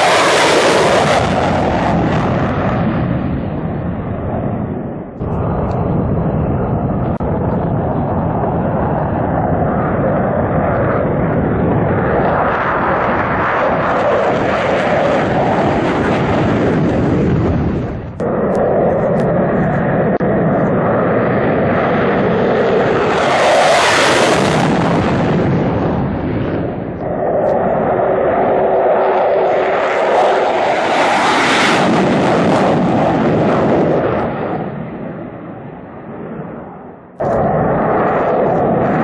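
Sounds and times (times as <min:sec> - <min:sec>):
fighter jets roaring: 0:00.0 - 0:39.0.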